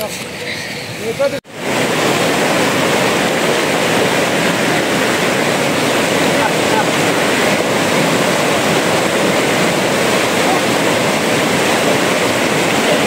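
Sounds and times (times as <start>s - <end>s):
rushing river water: 0.0s - 13.0s.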